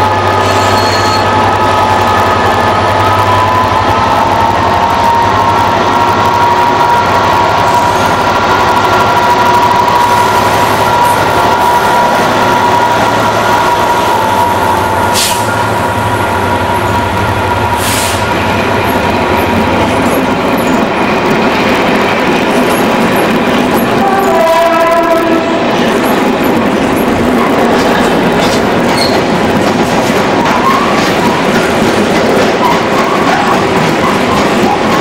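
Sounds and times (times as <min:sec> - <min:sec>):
passing train rumble: 0:00.0 - 0:35.0.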